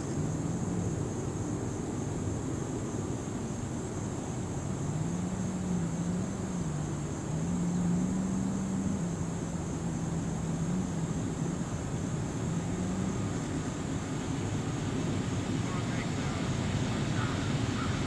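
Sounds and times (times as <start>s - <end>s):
distant diesel locomotive drone: 0.0s - 18.0s.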